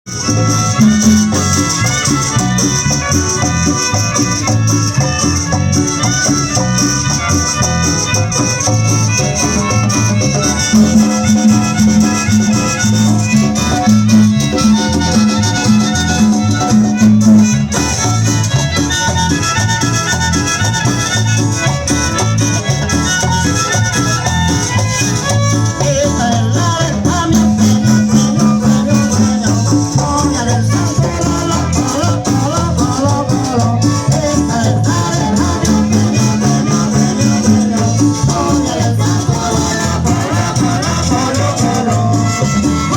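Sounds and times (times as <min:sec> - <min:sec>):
latin dance music: 0:00.1 - 0:42.9.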